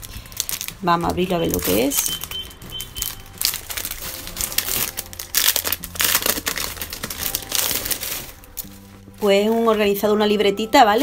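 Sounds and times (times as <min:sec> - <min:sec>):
wrapping crinkling and rustling: 0:00.0 - 0:10.4.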